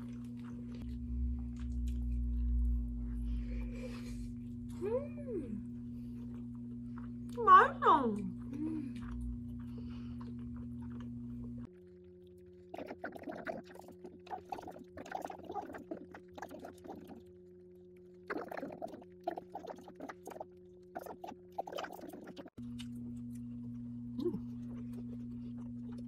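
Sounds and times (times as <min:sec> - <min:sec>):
chewing and mouth sounds: 0:00.0 - 0:26.0
steady low hum: 0:00.0 - 0:26.0.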